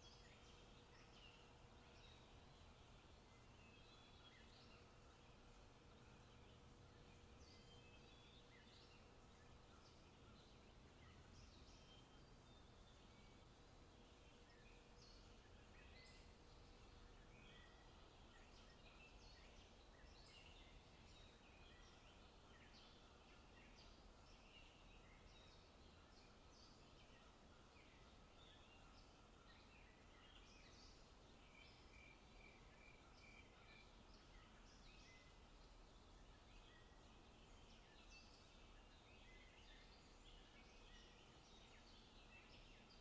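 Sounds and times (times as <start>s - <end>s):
small birds chirping and trilling: 0.0s - 43.0s.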